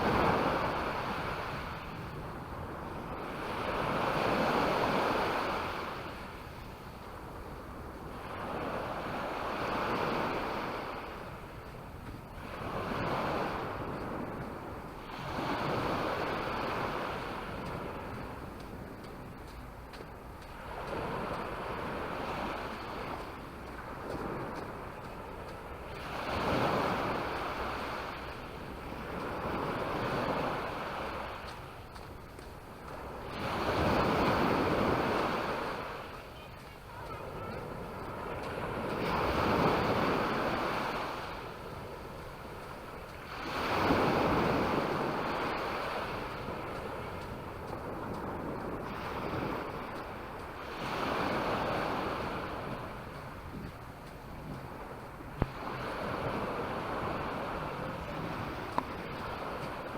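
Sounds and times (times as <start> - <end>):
waves washing up shore: 0.0 - 59.9
wind on microphone: 0.0 - 59.9.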